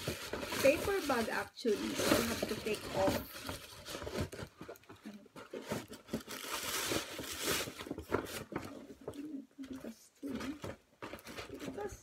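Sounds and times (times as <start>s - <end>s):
paper bags rustling: 0.0s - 12.0s.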